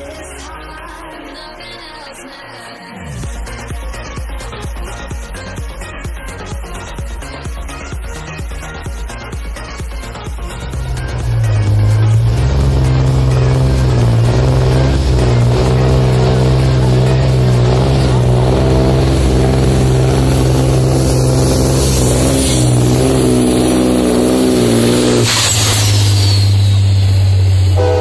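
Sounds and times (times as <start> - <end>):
truck diesel engine straining: 3.0 - 28.0.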